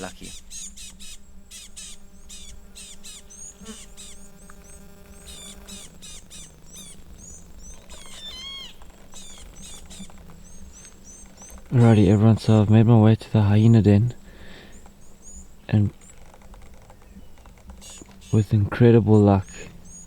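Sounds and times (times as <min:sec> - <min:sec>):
low steady hum: 0:00.0 - 0:20.0
small birds chirping: 0:00.0 - 0:20.0.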